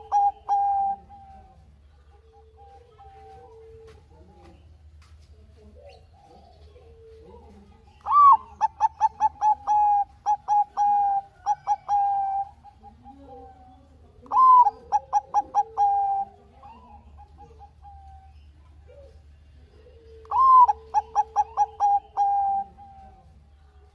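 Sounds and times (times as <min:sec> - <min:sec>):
faint dove cooing: 0:00.0 - 0:04.7, 0:05.4 - 0:23.9
dove singing: 0:00.0 - 0:23.9.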